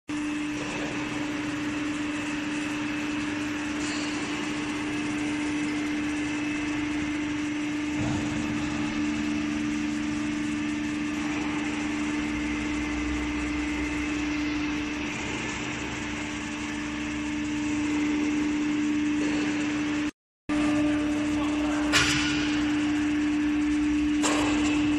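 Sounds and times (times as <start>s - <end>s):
hydraulic machine hum: 0.1s - 24.9s
lower mechanical tone: 0.2s - 24.9s.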